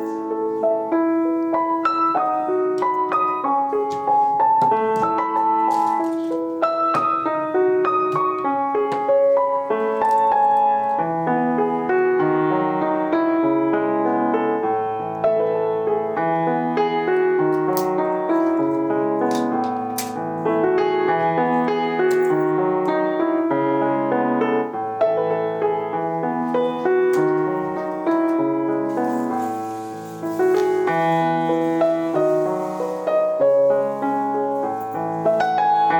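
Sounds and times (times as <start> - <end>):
soft piano music: 0.0 - 35.9.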